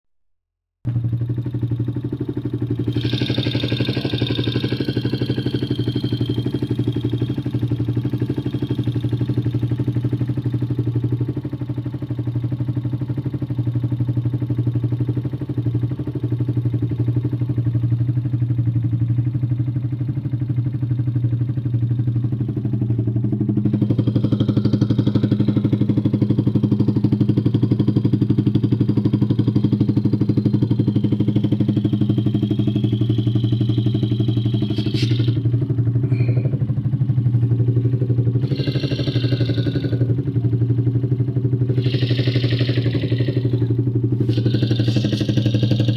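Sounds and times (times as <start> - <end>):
engine running: 0.9 - 45.9
rapid engine ticking: 0.9 - 45.9.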